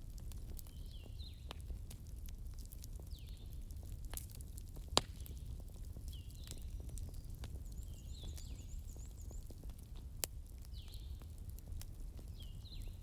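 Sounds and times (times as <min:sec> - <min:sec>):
fireplace crackles and pop: 0:00.0 - 0:13.0
low rumble of burning wood: 0:00.0 - 0:13.0.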